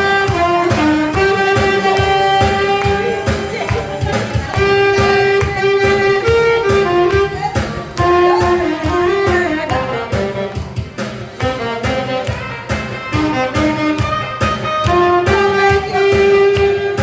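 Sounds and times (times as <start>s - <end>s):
backing track with drum beat: 0.0s - 17.0s
saxophone melody: 0.0s - 17.0s.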